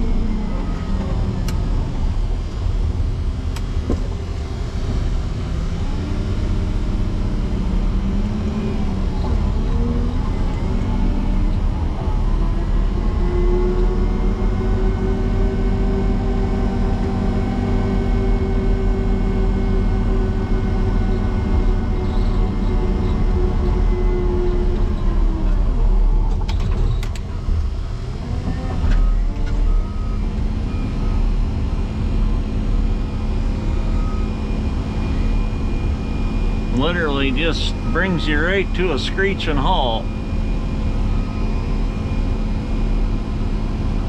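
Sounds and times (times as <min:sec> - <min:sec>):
diesel engine working under load: 0:00.0 - 0:44.0.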